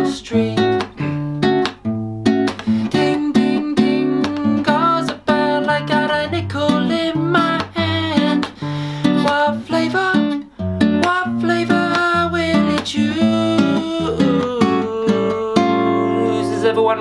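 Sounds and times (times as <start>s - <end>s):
man singing: 0.0s - 1.1s, 2.8s - 17.0s
acoustic guitar strummed: 0.0s - 17.0s.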